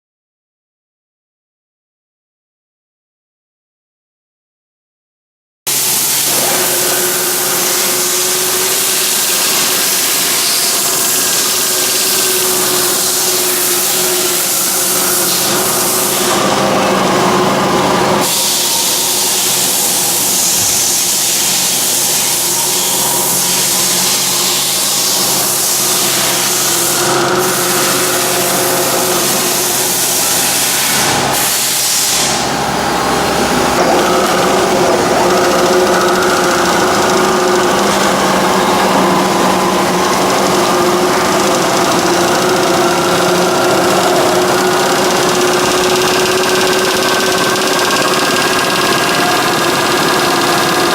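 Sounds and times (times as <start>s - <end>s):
milling machine motor humming: 5.7s - 50.9s.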